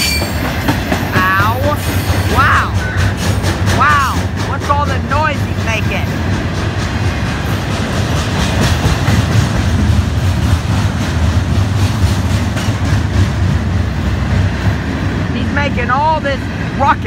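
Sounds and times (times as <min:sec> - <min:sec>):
freight train wheels rumbling on rail: 0:00.0 - 0:17.0
rapid clatter of train cars: 0:00.0 - 0:17.0.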